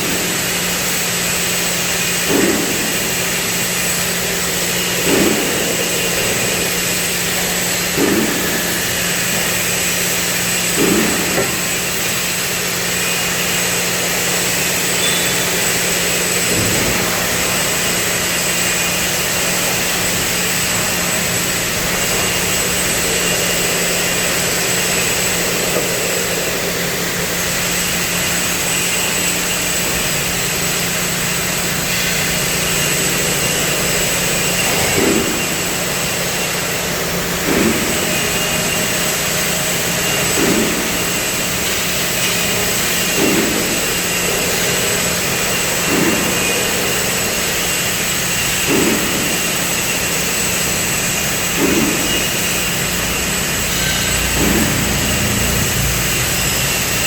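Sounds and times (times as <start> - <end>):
cutting torch roaring hiss: 0.0 - 57.0
machine hum: 0.0 - 57.0.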